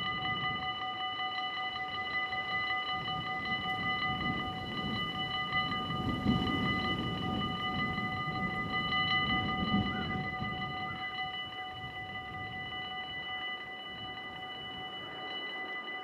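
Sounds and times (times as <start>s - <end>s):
level-crossing warning bell: 0.0s - 16.0s
train rumble: 0.0s - 16.0s.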